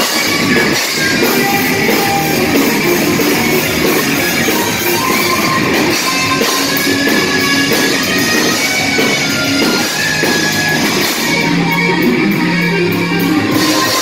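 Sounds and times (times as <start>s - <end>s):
drum kit: 0.0s - 14.0s
electric bass: 0.0s - 14.0s
electric guitars: 0.0s - 14.0s.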